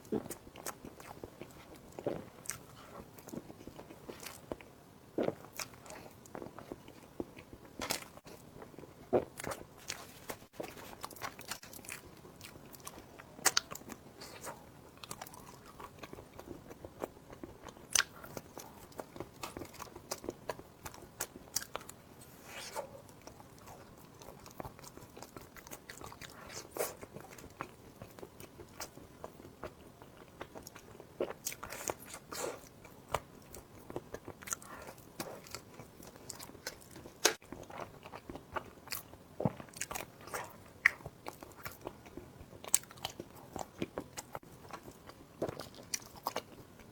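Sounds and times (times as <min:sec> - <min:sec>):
person chewing crunchy food: 0:00.0 - 0:46.9.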